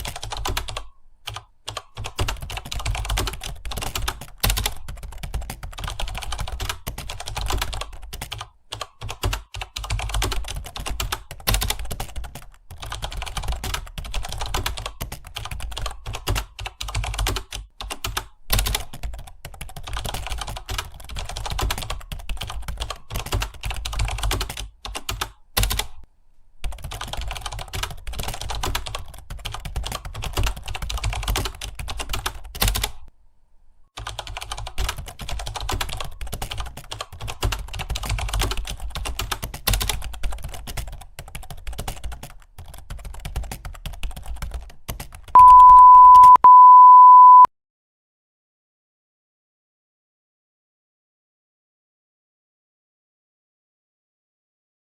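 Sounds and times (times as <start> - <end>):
fast keyboard typing: 0.0 - 33.1, 34.0 - 47.4.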